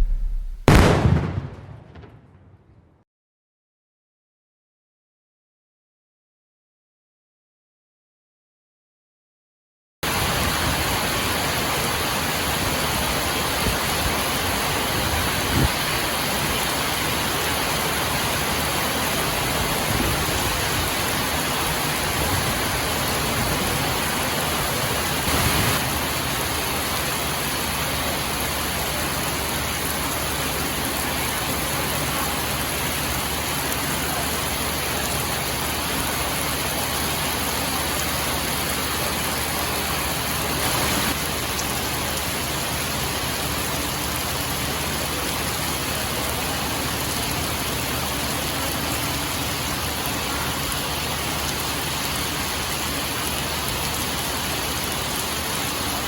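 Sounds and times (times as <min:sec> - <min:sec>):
heavy rain: 0:00.0 - 0:01.9, 0:10.0 - 0:56.0.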